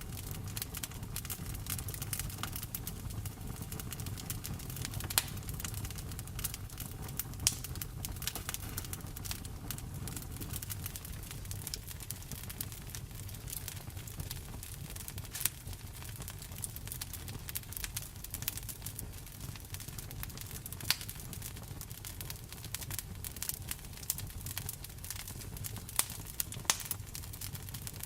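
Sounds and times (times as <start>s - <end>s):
wood fire crackling: 0.0s - 28.0s
sharp fire pops: 0.1s - 28.0s.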